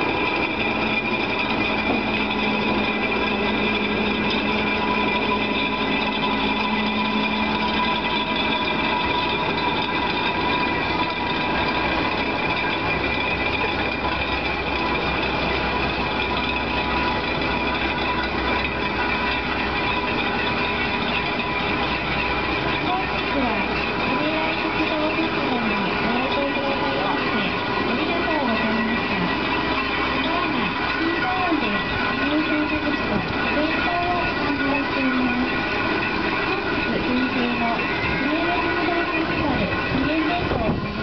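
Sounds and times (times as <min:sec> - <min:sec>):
railway turntable machine hum: 0:00.0 - 0:41.0.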